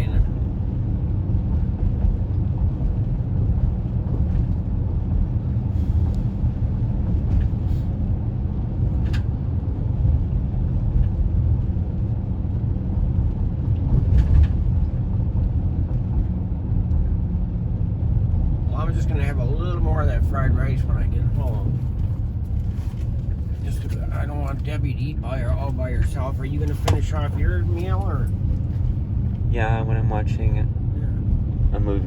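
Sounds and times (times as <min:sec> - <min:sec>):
car driving on wet road: 0:00.0 - 0:32.0.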